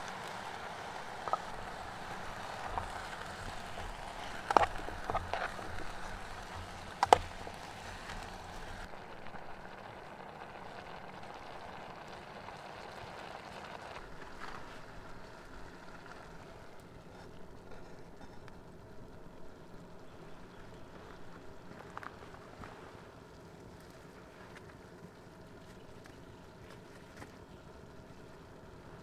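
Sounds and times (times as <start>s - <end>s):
steady hiss: 0.0s - 24.6s.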